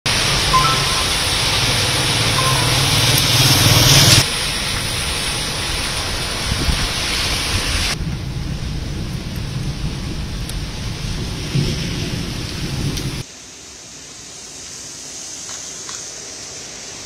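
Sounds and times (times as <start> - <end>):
rain and tyre spray hiss: 0.1 - 17.0.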